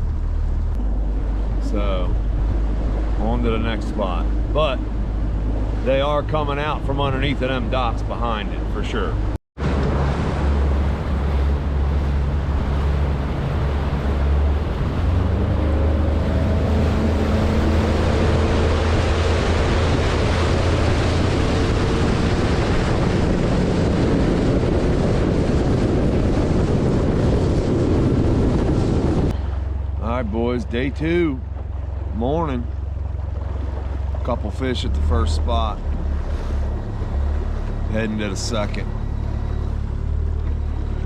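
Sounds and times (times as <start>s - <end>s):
outboard motor running: 0.0s - 41.0s
water rushing past hull: 0.0s - 41.0s
wind on microphone: 0.0s - 41.0s.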